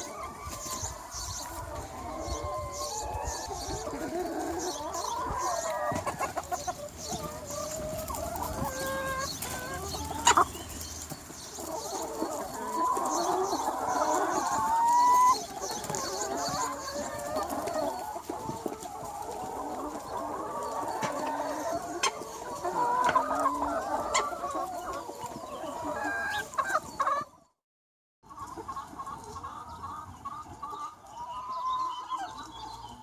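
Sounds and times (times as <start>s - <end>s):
chickens clucking: 0.0s - 27.6s, 28.2s - 33.0s.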